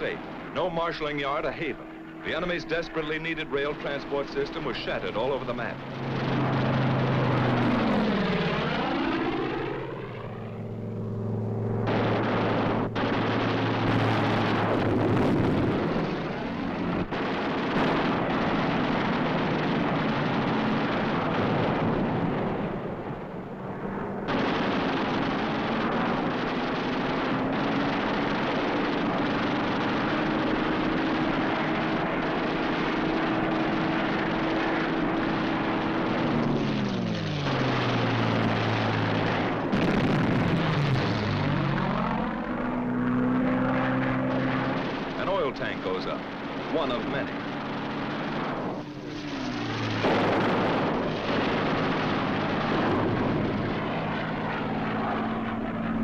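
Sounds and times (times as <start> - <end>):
propeller plane engines droning: 0.0 - 56.0.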